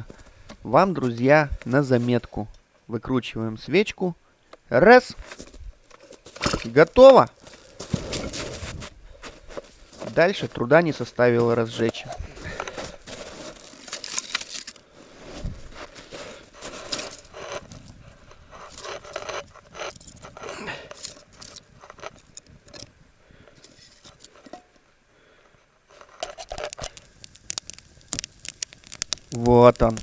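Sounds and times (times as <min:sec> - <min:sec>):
campfire twigs crackling and snapping: 0:00.0 - 0:02.6, 0:05.2 - 0:24.9, 0:25.5 - 0:30.0.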